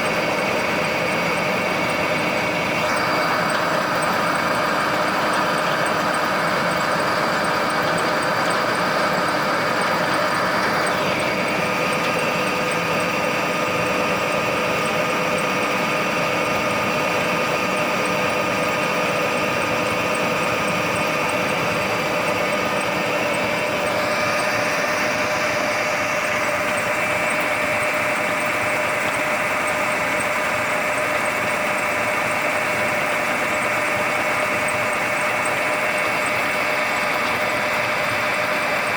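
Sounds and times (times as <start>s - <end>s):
baler machine humming and whining: 0.0s - 38.9s.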